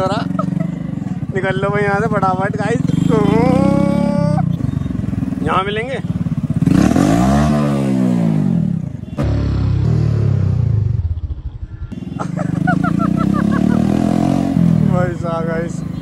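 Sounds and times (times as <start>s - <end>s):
motorcycle loud exhaust: 0.0s - 16.0s.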